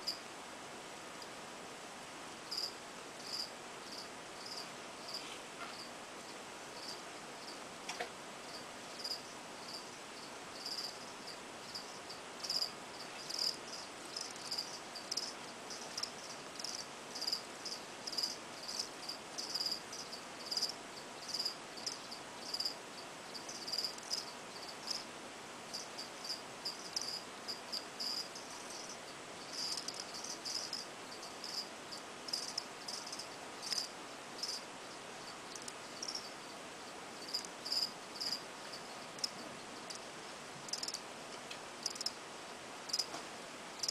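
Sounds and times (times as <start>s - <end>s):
cricket chirping: 0.0s - 0.2s, 2.4s - 25.1s, 25.7s - 40.1s, 40.7s - 41.0s, 41.8s - 42.2s, 42.9s - 43.2s.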